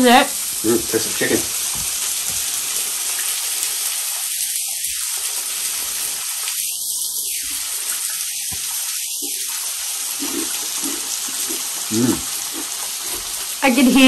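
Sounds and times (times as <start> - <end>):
oil sizzling as chicken fries: 0.0 - 14.0.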